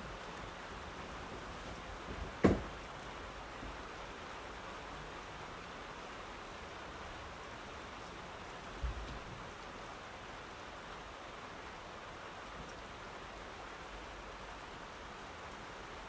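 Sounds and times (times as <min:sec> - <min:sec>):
steady rain hissing: 0:00.0 - 0:16.0.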